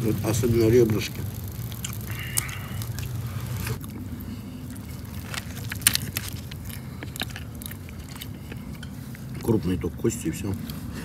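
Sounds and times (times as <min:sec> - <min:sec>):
foil tray crinkling: 0:00.0 - 0:09.6
steady low rumble: 0:00.0 - 0:11.0
chewing: 0:01.4 - 0:11.0.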